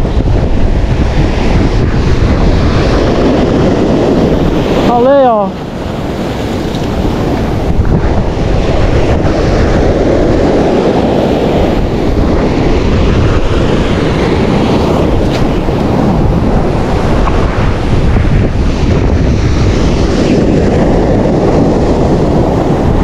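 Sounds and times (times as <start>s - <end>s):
sea surf washing against shore: 0.0s - 23.0s
wind rumbling on microphone: 0.0s - 23.0s.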